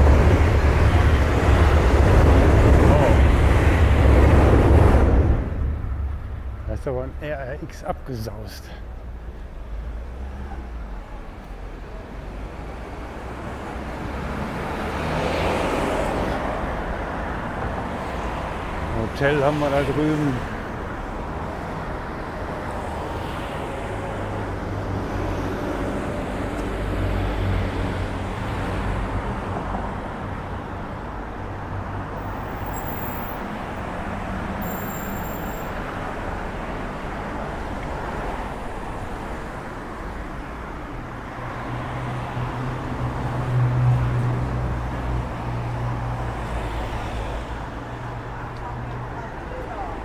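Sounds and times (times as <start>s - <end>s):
cars and tyres rushing past: 0.0s - 50.0s.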